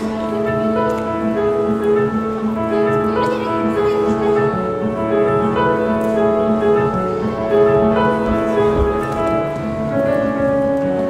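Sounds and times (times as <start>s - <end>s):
slow instrumental music: 0.0s - 11.0s.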